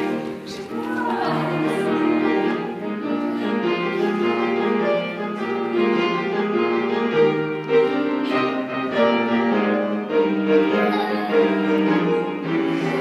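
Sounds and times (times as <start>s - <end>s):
bowed strings: 0.0s - 13.0s
piano sustained notes: 0.0s - 13.0s.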